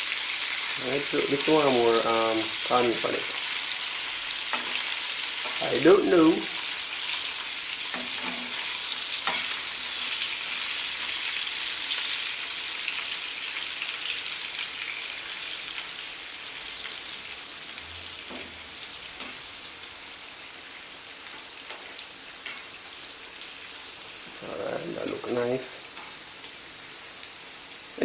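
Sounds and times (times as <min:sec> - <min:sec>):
okra sizzling in oil: 0:00.0 - 0:28.0.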